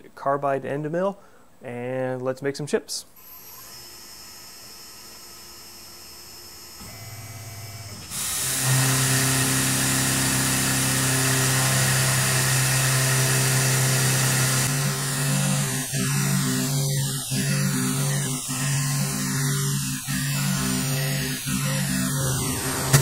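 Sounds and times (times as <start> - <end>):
milling machine humming: 4.4 - 23.0.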